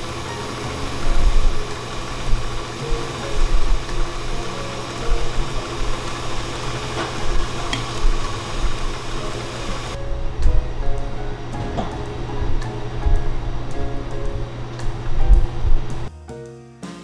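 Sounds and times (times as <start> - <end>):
kitchen machinery humming: 0.0 - 16.1.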